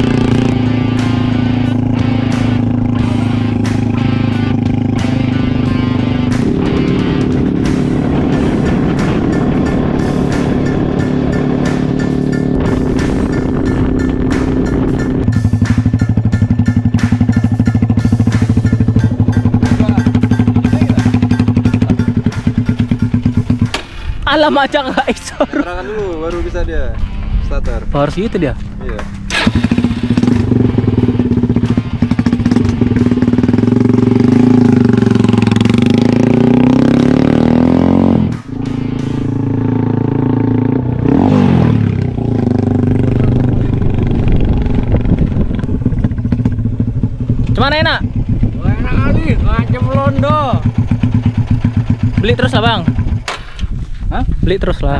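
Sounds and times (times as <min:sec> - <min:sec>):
motorcycle engine idling: 0:00.0 - 0:25.8, 0:28.6 - 0:37.2, 0:38.3 - 0:54.0.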